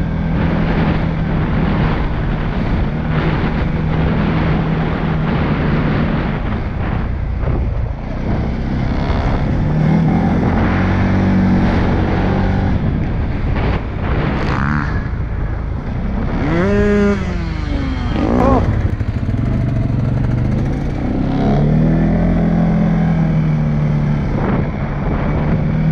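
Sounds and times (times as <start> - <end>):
atv engine running: 0.0 - 25.9
wind on microphone: 0.0 - 25.9.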